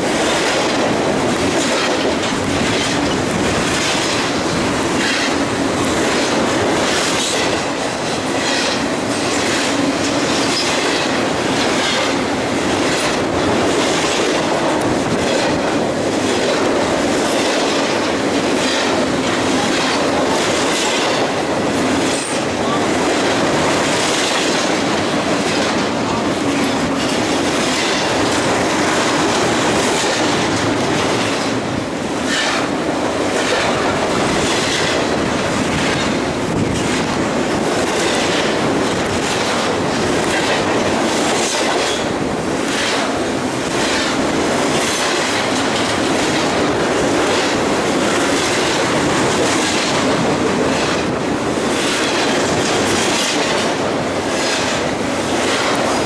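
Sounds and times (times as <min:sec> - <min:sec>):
freight train wheels rumbling: 0:00.0 - 0:56.0
wheels clickety-clack: 0:00.0 - 0:56.0.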